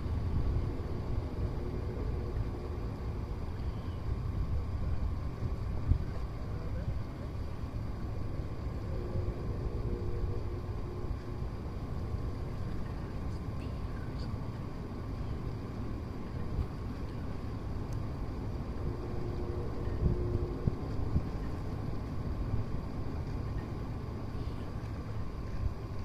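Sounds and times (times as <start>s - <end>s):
faint steady hum: 0.0s - 26.0s
wind rumble on microphone: 0.0s - 26.0s.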